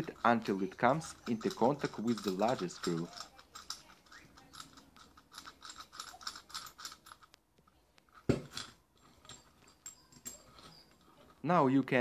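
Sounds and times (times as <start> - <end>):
small metallic clicks: 0.0 - 11.3.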